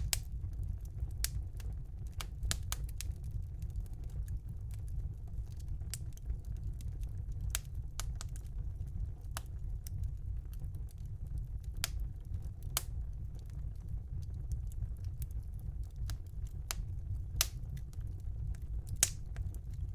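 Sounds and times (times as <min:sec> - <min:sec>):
fire crackling in a fireplace: 0:00.0 - 0:19.9.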